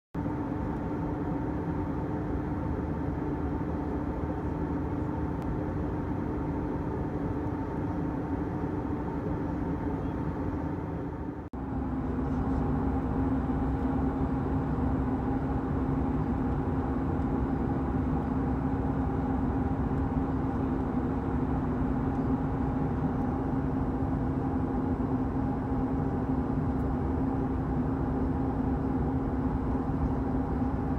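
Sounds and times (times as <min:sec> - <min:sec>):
airliner cabin drone: 0:00.2 - 0:30.9.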